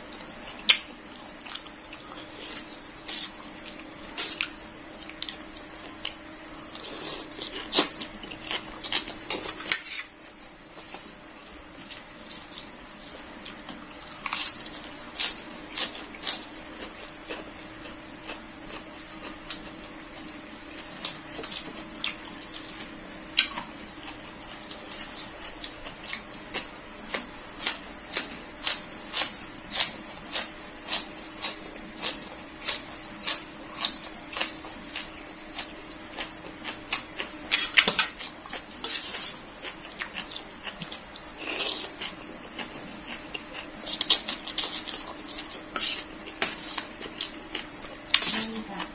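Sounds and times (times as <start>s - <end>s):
crickets chirring: 0.0s - 48.9s
crunchy chewing of raw greens: 0.0s - 48.9s.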